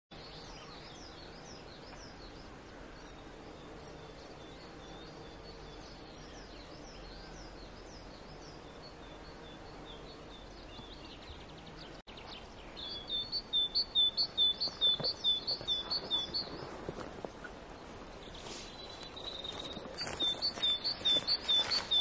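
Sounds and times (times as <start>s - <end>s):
songbirds singing: 0.1s - 22.0s
steady outdoor hiss: 0.1s - 22.0s.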